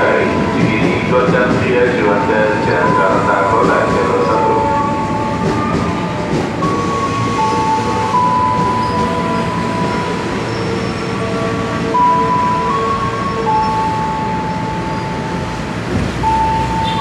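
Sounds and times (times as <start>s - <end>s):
train wheels rumbling: 0.0s - 17.0s
high ringing tones: 2.0s - 17.0s.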